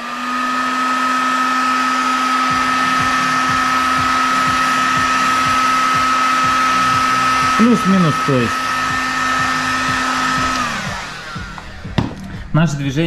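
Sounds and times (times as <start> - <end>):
heat gun blowing air: 0.0 - 12.6.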